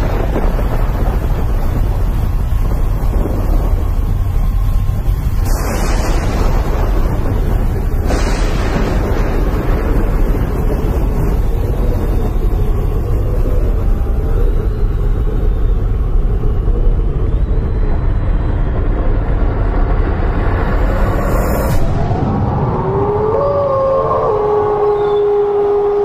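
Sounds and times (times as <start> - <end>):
deep stormy rumble over speakers: 0.0 - 26.0.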